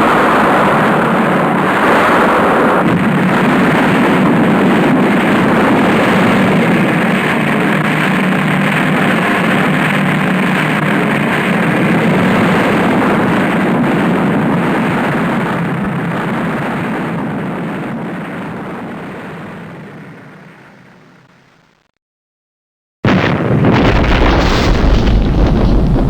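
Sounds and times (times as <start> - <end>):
loud rumbling with low hum: 0.0 - 21.3, 23.1 - 26.0.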